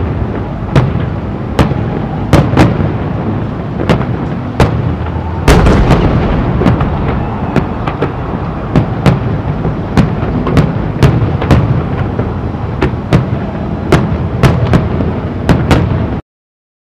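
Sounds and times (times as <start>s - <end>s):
fireworks bursting: 0.0s - 16.2s
rumble of detonations: 0.0s - 16.2s.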